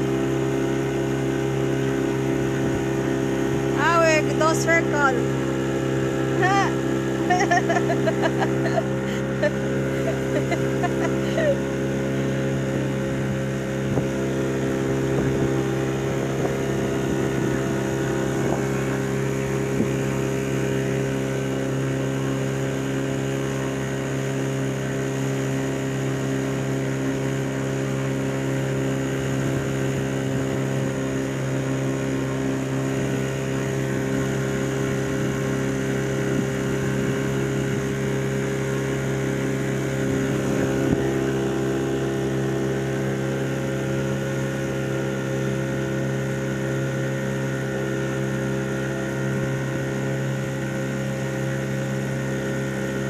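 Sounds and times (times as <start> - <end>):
motorboat engine droning: 0.0 - 53.0.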